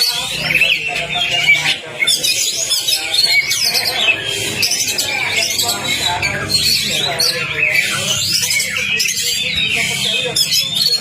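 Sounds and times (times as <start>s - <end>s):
songbird whistling and chattering: 0.0s - 11.0s.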